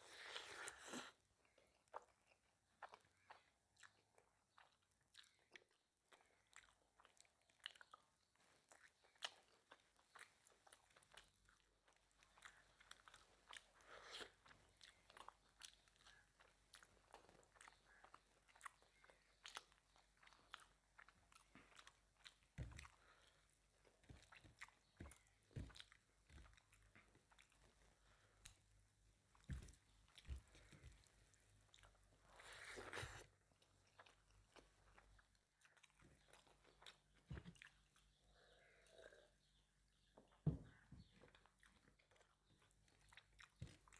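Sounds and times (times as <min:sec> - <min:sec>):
chewing and mouth sounds: 0:00.1 - 0:39.2, 0:41.1 - 0:43.9.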